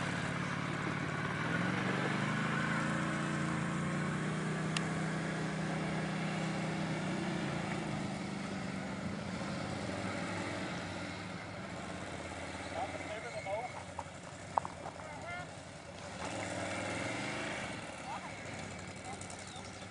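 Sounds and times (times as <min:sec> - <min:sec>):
quad bike engine running: 0:00.0 - 0:19.9.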